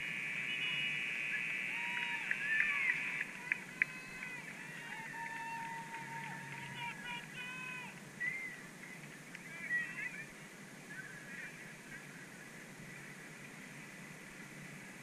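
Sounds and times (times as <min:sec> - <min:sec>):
distant pitched calls: 0:00.0 - 0:13.9
steady open-air hiss: 0:00.0 - 0:15.0.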